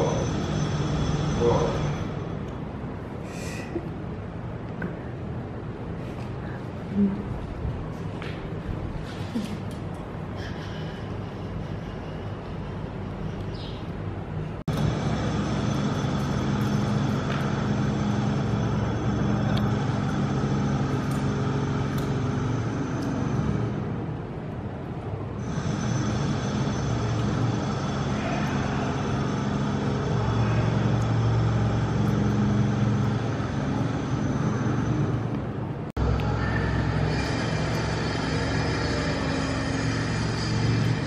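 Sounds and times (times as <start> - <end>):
low mechanical hum and rumble: 0.0 - 41.0.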